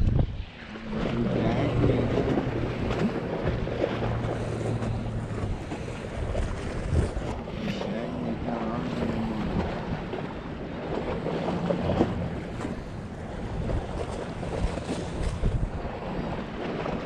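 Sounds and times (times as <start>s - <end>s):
faint wavering low hum: 0.0s - 17.0s
wind blowing across microphone: 0.0s - 17.0s.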